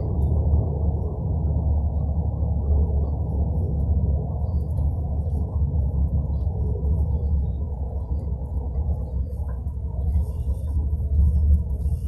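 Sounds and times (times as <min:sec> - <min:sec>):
vehicle engine and tyres rumble: 0:00.0 - 0:12.0.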